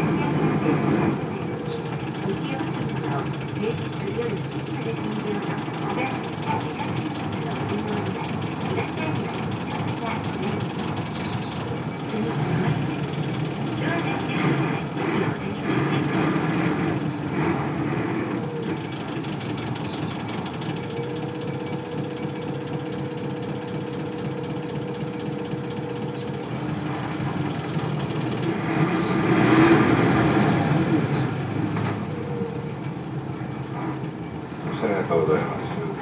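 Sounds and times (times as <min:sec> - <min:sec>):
diesel bus engine running: 0:00.0 - 0:36.0.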